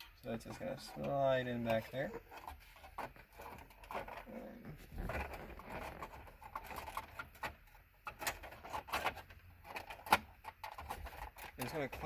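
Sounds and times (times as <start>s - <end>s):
plastic trim panel scraping: 0.4s - 12.0s.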